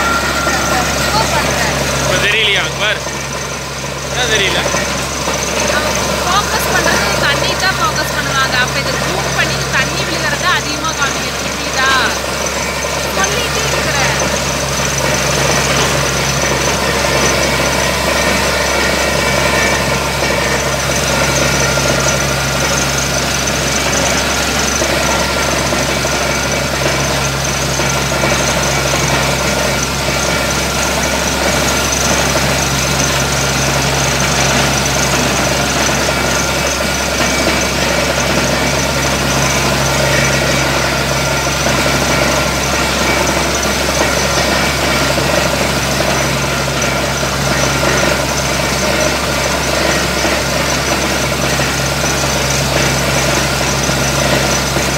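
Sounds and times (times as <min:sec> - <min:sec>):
drilling rig engine running: 0:00.0 - 0:54.9
water gushing: 0:00.0 - 0:54.9.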